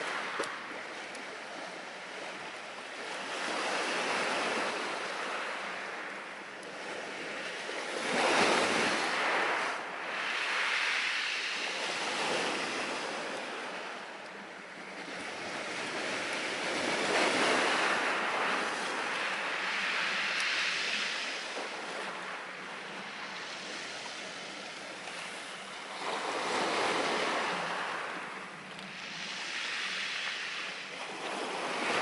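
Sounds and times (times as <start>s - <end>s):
waves washing onto shore: 0.0s - 32.0s.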